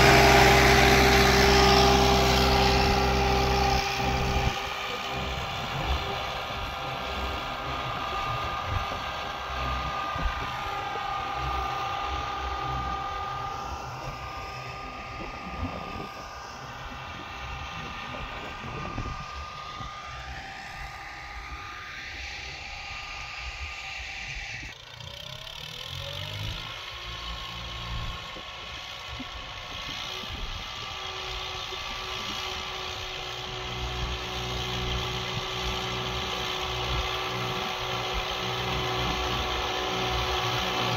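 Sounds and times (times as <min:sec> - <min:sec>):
tractor diesel engine running: 0:00.0 - 0:23.0, 0:24.7 - 0:40.9.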